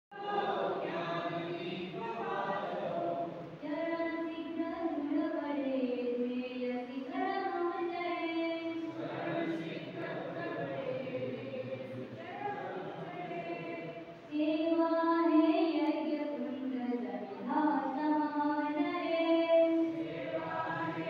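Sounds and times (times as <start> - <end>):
group singing in unison: 0.1 - 5.4, 6.3 - 16.1, 17.1 - 21.0.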